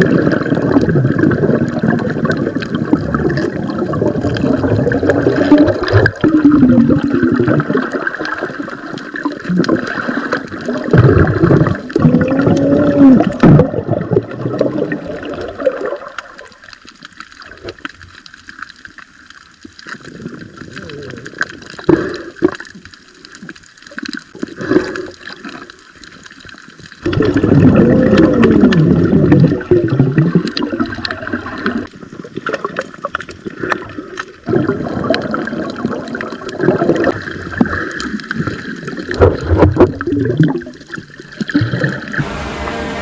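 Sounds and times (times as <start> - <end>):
water gurgling and sloshing: 0.0 - 21.7, 22.4 - 42.2.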